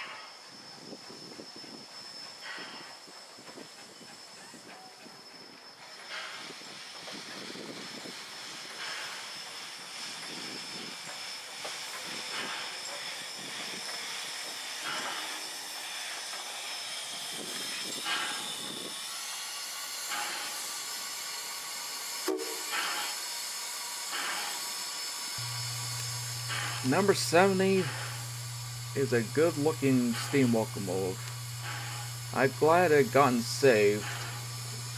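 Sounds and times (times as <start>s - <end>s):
soft steam puffs: 0.0s - 34.9s
steam locomotive hissing: 0.0s - 34.9s.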